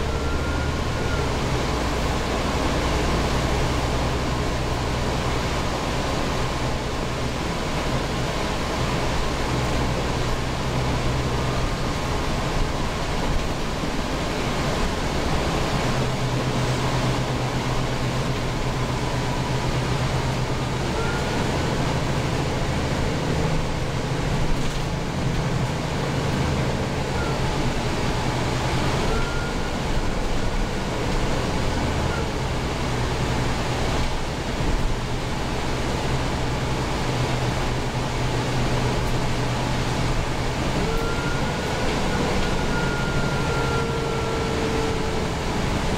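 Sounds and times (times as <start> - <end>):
bus engine droning: 0.0 - 45.9
road and air noise: 0.0 - 45.9.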